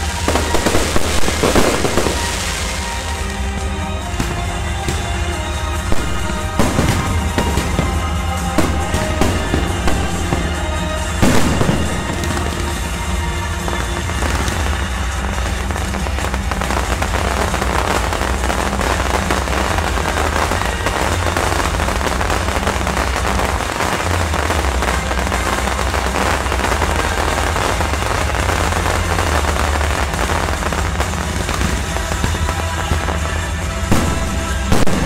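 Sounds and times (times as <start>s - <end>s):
fireworks crackling pops: 0.0s - 35.0s
low music: 0.0s - 35.0s.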